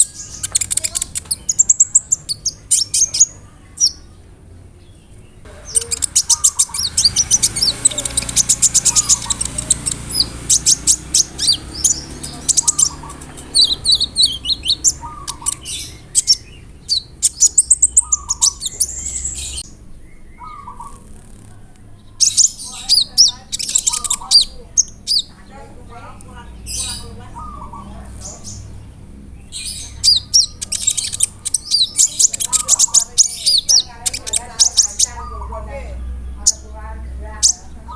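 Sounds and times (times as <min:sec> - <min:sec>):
bird singing high chirps and trills: 0:00.0 - 0:37.9.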